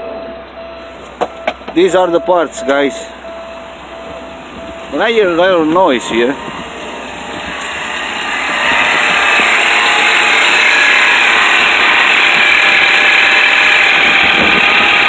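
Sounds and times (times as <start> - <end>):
car engine running: 0.9 - 15.0.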